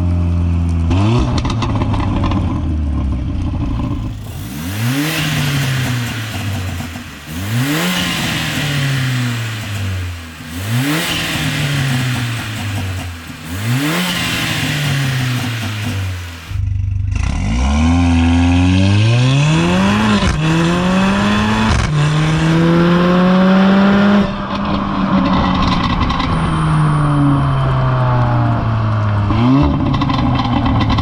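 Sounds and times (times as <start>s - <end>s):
car engine revving at full throttle: 0.0s - 31.0s.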